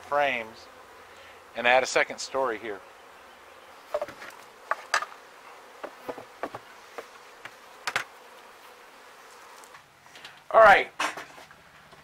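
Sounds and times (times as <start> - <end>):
bees flying past: 0.0 - 10.2
honey bees buzzing: 0.0 - 10.4.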